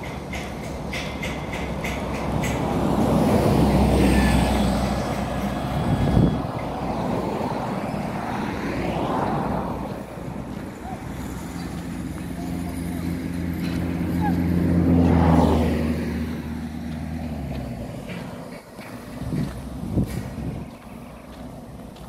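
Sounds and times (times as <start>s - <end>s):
bus driving past: 0.0s - 22.0s
smaller vehicle passing: 0.8s - 22.0s.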